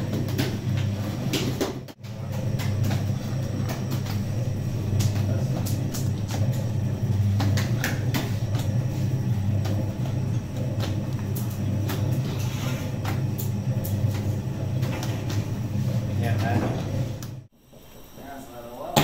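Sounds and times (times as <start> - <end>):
dough mixer motor hum: 0.0 - 17.5.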